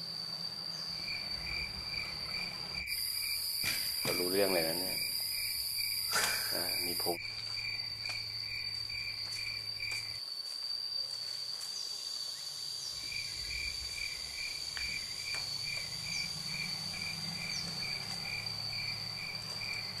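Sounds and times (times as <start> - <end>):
insect chirping: 0.0 - 20.0
insect high-pitched trill: 0.0 - 20.0.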